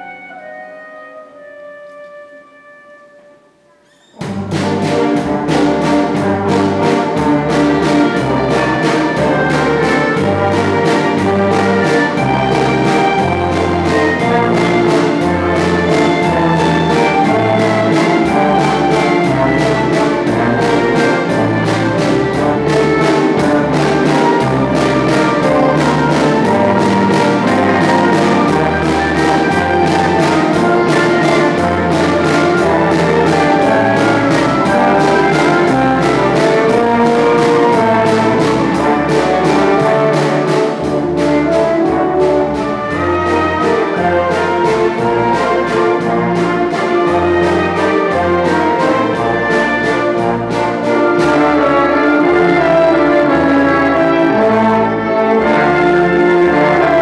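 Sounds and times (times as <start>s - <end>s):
brass section playing: 0.0s - 57.0s
drum kit beat: 4.2s - 53.3s
strings playing: 4.2s - 57.0s
guitars playing: 4.6s - 56.6s.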